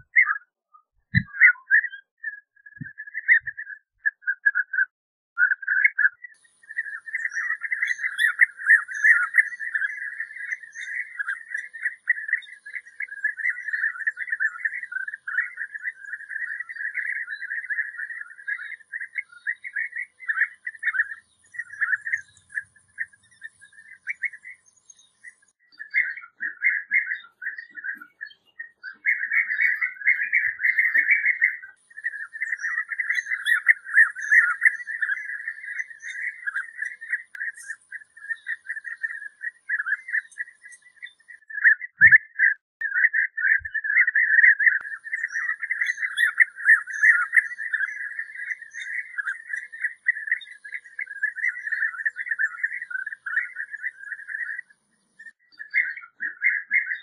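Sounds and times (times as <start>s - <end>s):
birds chattering calls: 5.4s - 57.0s.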